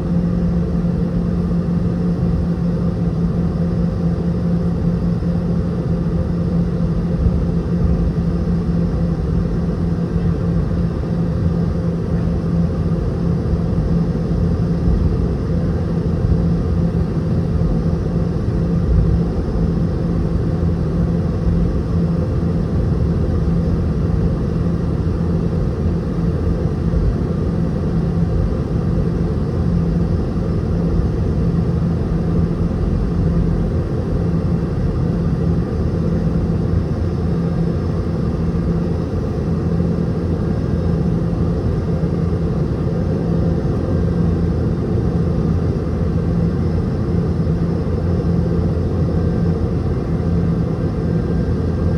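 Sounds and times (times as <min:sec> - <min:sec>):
jet engines running in cabin: 0:00.0 - 0:51.9.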